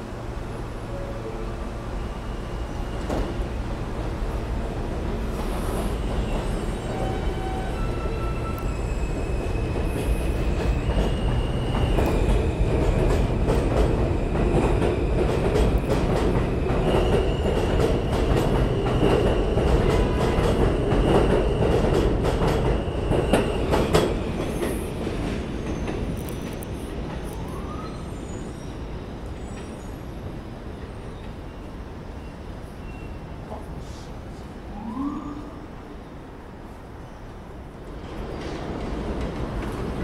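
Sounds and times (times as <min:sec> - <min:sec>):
subway train rumbling: 0:00.0 - 0:40.0.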